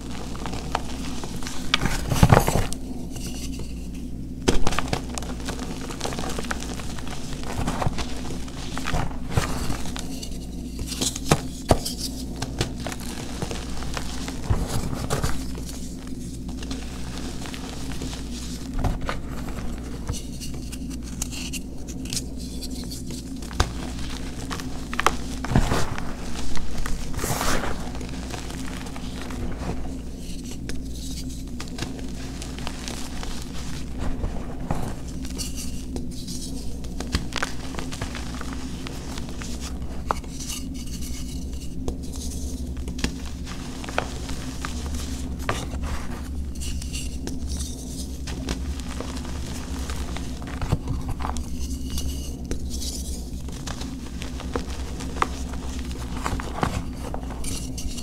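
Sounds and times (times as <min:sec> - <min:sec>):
steady low hum: 0:00.0 - 0:58.0
hands crushing chalk: 0:04.4 - 0:58.0.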